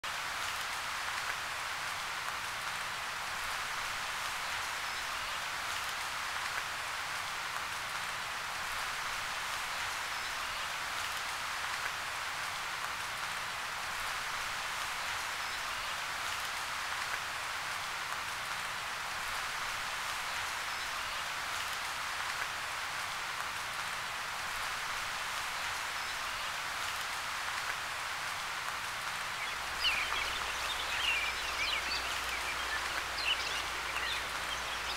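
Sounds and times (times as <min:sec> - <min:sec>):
steady outdoor hiss: 0:00.1 - 0:34.9.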